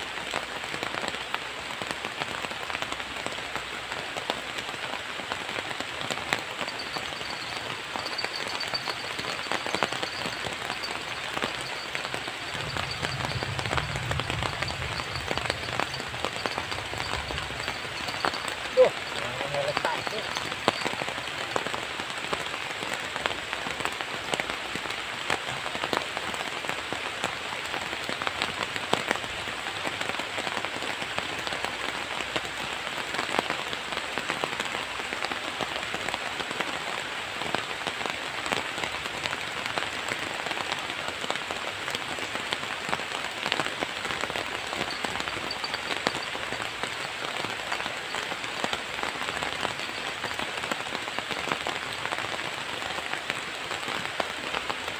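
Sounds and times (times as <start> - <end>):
raindrops ticking close: 0.0 - 54.9
steady rain falling: 0.0 - 54.9.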